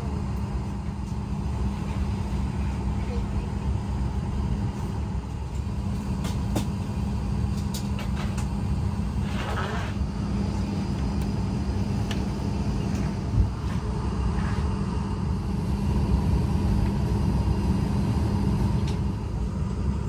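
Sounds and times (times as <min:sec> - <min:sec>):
airplane cabin rumble and hum: 0:00.0 - 0:20.0.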